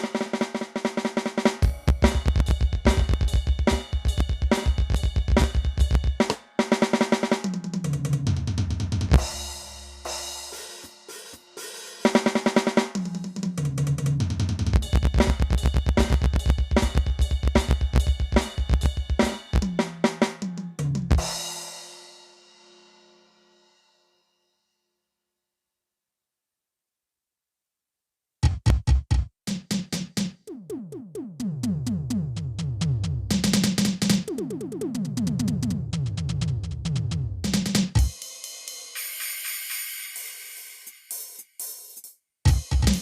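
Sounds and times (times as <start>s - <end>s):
electronic drum kit pattern: 0.0s - 21.8s, 28.4s - 43.0s.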